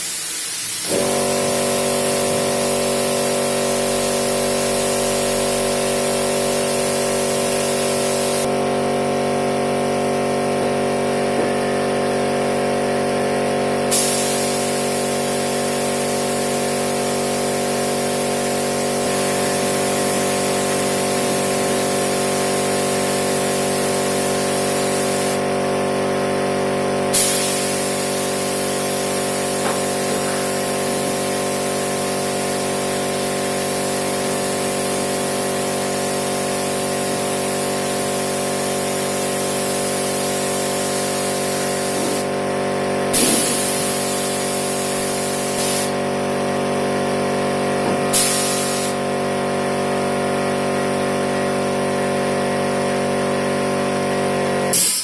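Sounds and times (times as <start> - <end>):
spray gun hissing: 0.0 - 8.5, 11.8 - 25.9, 27.0 - 46.2, 47.3 - 49.8, 54.7 - 55.0.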